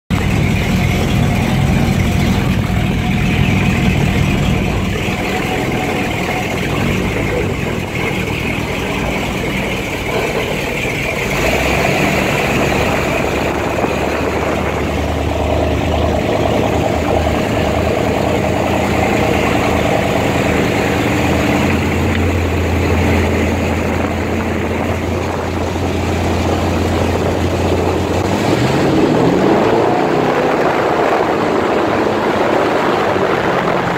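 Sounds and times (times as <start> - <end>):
boat engine running: 0.1 - 33.9
rushing wind: 0.1 - 33.9
water noise: 0.1 - 33.9.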